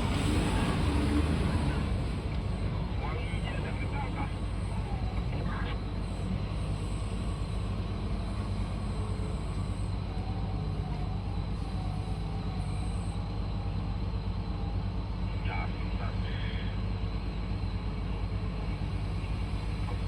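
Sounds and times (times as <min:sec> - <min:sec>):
heavy diesel engines droning: 0:00.0 - 0:20.0
faint wavering whine: 0:02.4 - 0:20.0.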